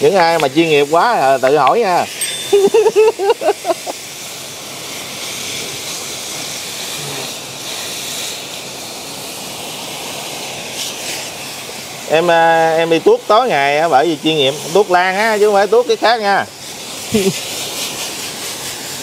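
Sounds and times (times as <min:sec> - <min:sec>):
water spray jet hissing: 0:00.0 - 0:02.2, 0:02.8 - 0:19.0.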